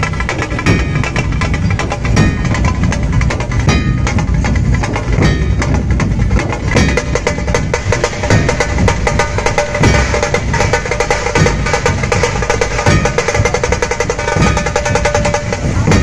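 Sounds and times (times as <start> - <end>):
rapid drum strokes: 0.0 - 16.0.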